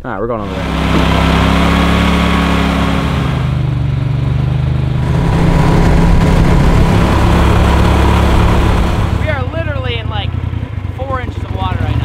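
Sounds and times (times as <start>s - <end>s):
boat motor droning: 0.4s - 12.0s.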